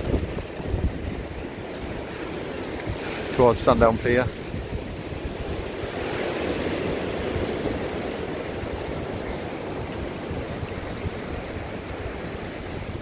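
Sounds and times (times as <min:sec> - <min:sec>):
sea surf washing: 0:00.0 - 0:13.0
wind buffeting microphone: 0:00.0 - 0:13.0.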